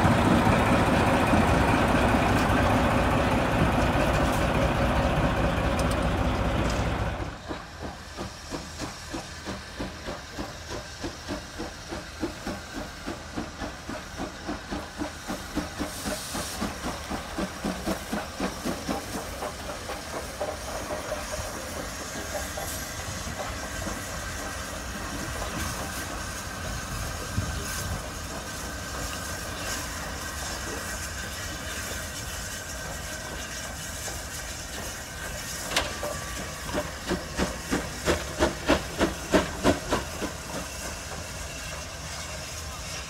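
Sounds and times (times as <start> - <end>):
rhythmic locomotive beats: 0.0 - 43.0
steam locomotive hissing: 0.0 - 43.0.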